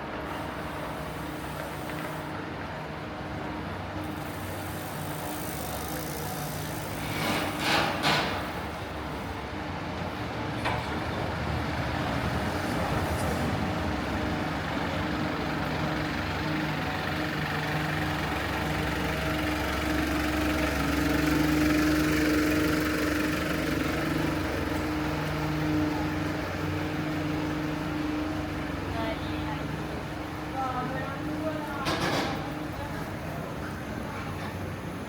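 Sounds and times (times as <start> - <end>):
large vehicle engine idling: 0.0 - 35.0
street noise: 0.0 - 35.0.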